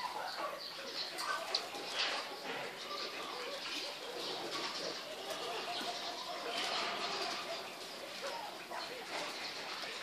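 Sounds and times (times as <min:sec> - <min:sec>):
birds calling and cooing: 0:00.0 - 0:10.0.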